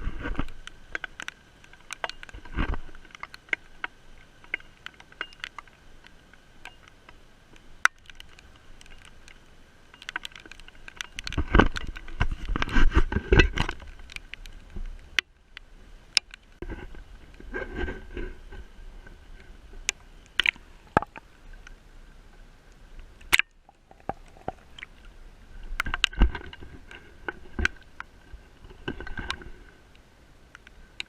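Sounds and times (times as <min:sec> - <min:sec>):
raindrops tapping microphone: 0:00.0 - 0:31.0.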